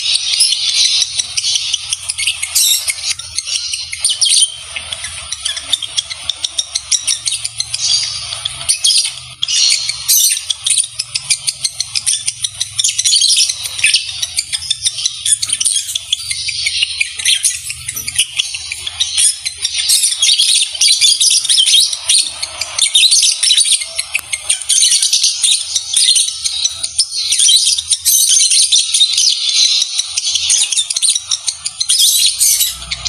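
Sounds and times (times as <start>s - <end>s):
lovebirds chattering: 0.0s - 33.0s.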